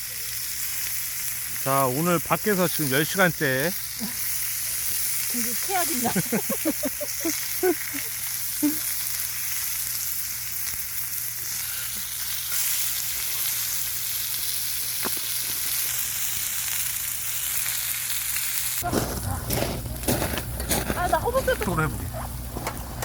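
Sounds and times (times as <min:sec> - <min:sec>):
food frying sizzle: 0:00.0 - 0:23.0.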